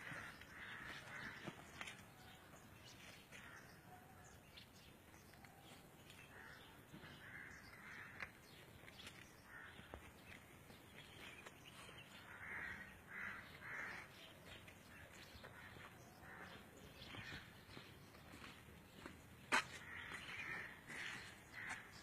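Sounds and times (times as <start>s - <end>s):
faint rough bird calls: 0.0s - 4.4s, 5.4s - 10.4s, 11.2s - 17.5s, 19.5s - 22.0s.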